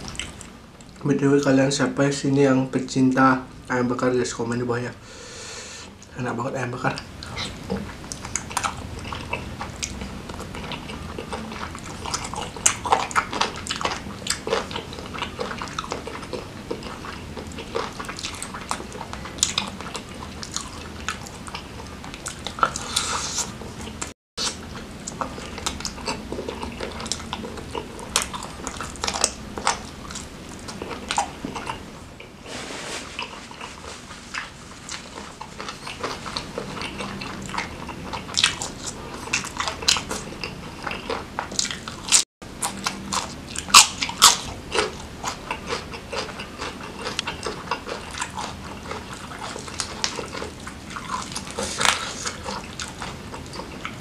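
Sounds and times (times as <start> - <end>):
chewing with wet mouth clicks: 0.0 - 1.0, 6.9 - 32.3, 34.3 - 54.0.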